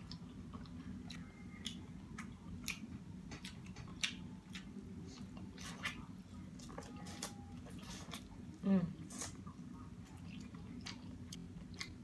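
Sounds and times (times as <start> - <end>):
person chewing: 0.0 - 8.4, 9.0 - 12.0
steady low hum: 0.0 - 12.0.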